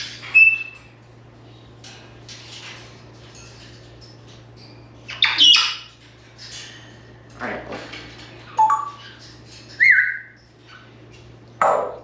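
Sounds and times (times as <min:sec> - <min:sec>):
parrot scratching and rustling: 0:00.0 - 0:11.6.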